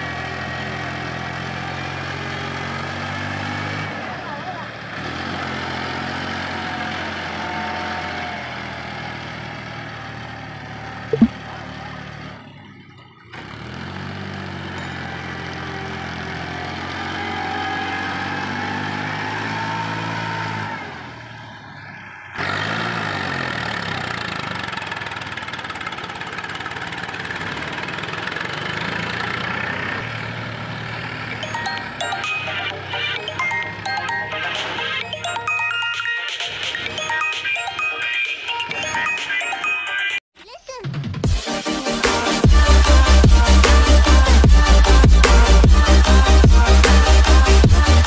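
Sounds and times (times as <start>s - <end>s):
tractor diesel engine under load: 0.0s - 35.6s, 41.6s - 48.0s.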